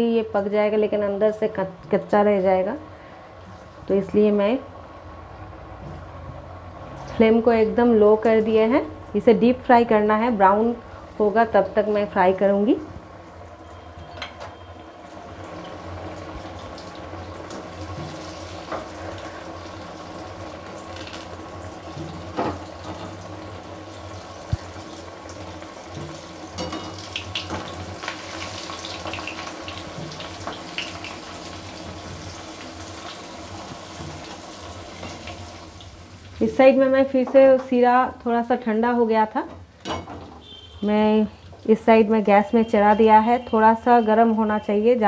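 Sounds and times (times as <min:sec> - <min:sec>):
dough deep-frying sizzle: 0:00.0 - 0:38.2.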